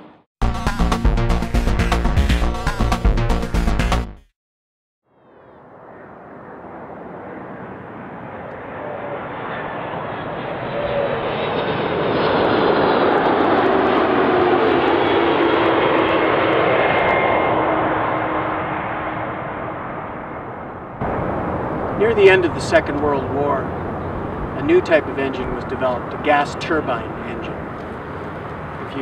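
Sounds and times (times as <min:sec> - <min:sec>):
jet airliner passing overhead: 0:05.2 - 0:29.0.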